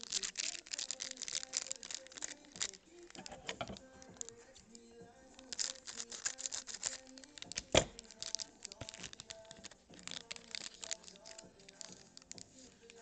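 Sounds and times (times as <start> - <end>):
foil wrapper crinkling and tearing: 0.0 - 4.6, 5.4 - 13.0
faint background music: 0.0 - 13.0.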